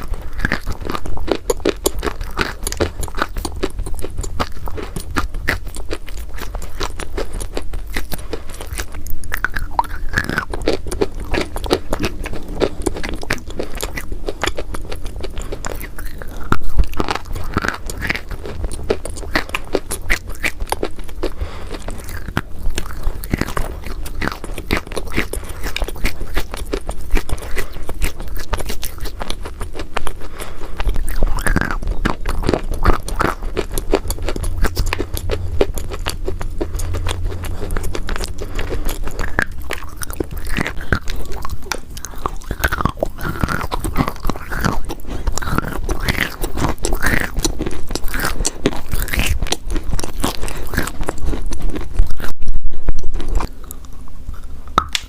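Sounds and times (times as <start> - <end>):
low hum: 0.0 - 55.0
person chewing crunchy chalk: 0.0 - 55.0.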